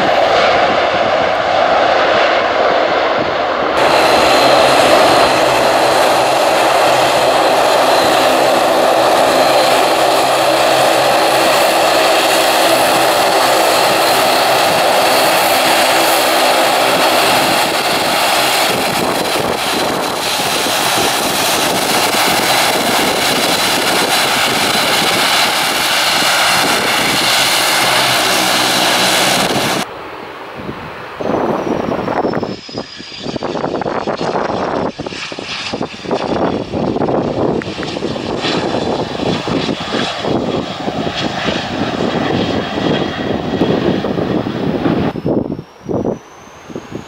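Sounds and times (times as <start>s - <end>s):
high turbine whine: 0.0s - 47.0s
propeller drone: 0.0s - 47.0s.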